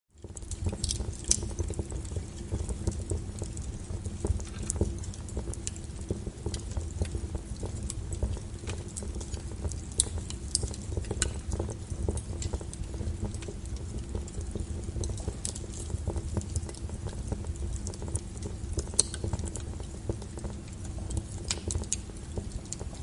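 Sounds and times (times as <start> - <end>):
low rumble of flame: 0.1 - 23.0
logs crackling and popping: 0.2 - 23.0.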